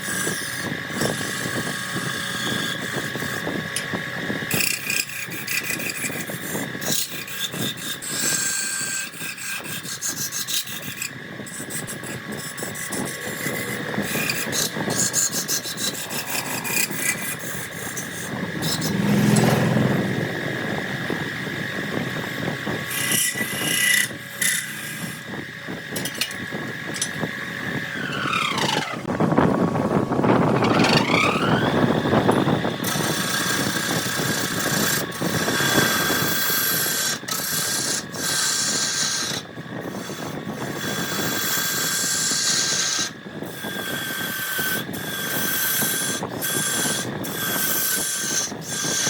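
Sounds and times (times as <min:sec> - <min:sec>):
turning tool rasping wood: 0:00.0 - 0:29.1, 0:30.3 - 0:49.0
lathe motor whine: 0:00.0 - 0:49.0.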